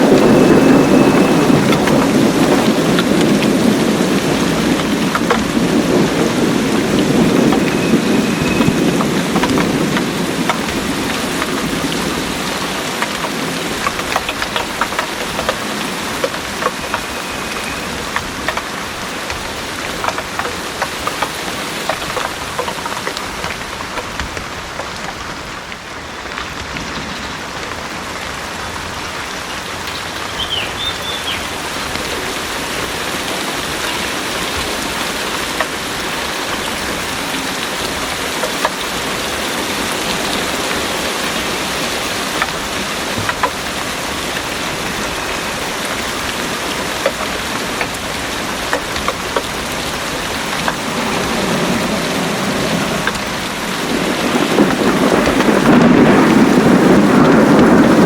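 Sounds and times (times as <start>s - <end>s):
heavy rain pouring: 0.0s - 58.0s
raindrops ticking on surfaces: 0.0s - 58.0s.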